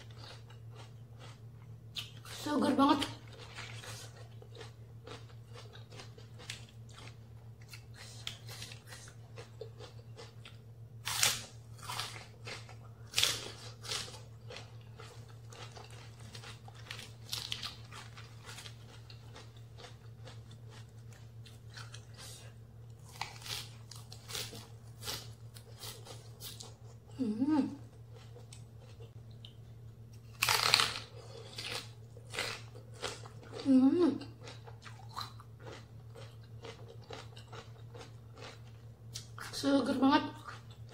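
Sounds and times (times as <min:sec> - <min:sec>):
crunching raw vegetables: 0:00.0 - 0:27.2, 0:27.8 - 0:39.6.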